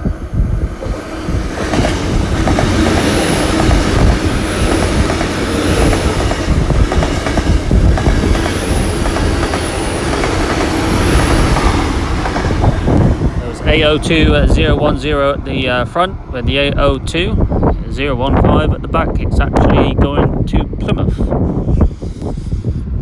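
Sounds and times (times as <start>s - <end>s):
train wheels rumbling and clicking: 0.0s - 20.4s.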